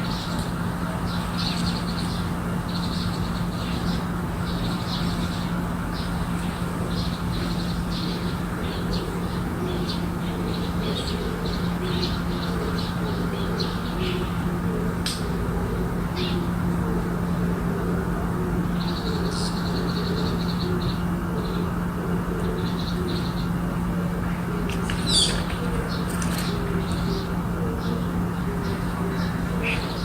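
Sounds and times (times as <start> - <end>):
small birds chirping: 0.0 - 14.4, 18.6 - 23.7, 24.6 - 30.0
steady low hum: 0.0 - 30.0.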